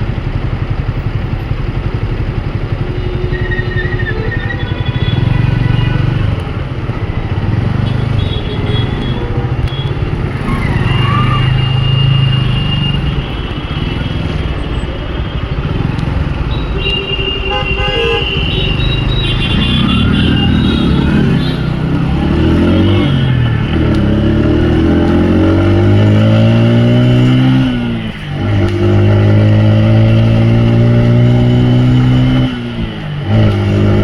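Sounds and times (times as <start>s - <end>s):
motorcycle engine running: 0.0s - 34.0s
vehicle horns honking: 2.3s - 6.4s, 7.8s - 15.8s, 16.4s - 34.0s.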